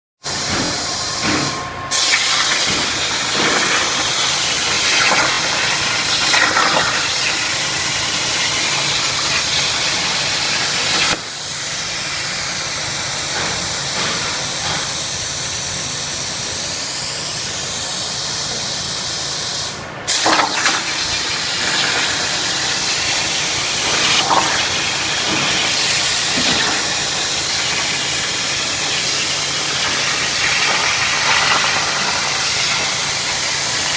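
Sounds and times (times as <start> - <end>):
plasma torch hissing: 0.4 - 15.2, 18.2 - 33.9.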